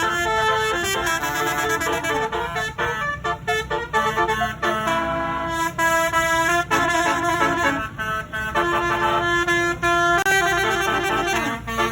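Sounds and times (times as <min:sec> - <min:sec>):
multi-tone bus horn melody: 0:00.0 - 0:11.9.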